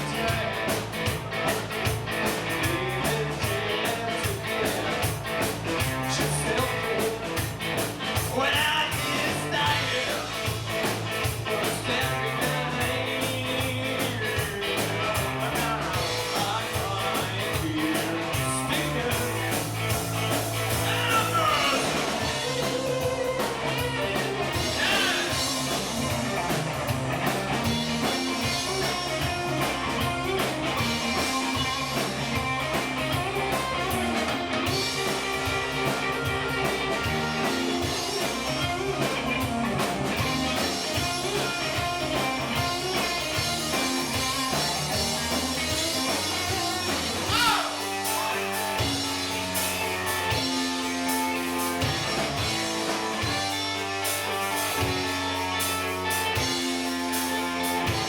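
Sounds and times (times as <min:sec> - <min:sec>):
electric guitar notes: 0:00.0 - 0:58.0
rock band playing: 0:00.0 - 0:58.0.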